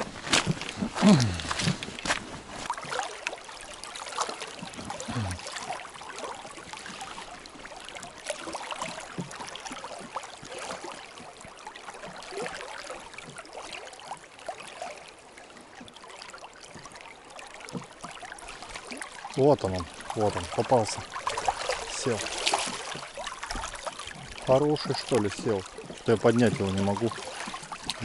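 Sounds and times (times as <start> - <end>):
river water flowing over stones: 0.0 - 28.0.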